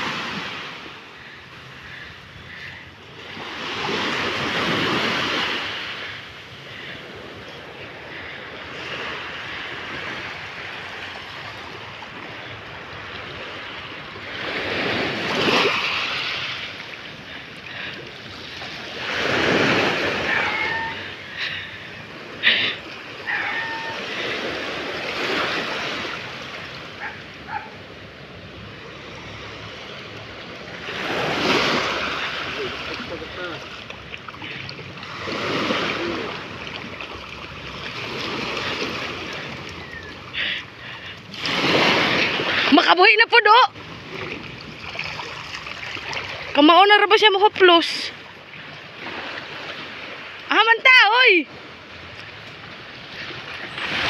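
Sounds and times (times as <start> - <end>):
small waves washing onto sand: 0.0 - 54.0.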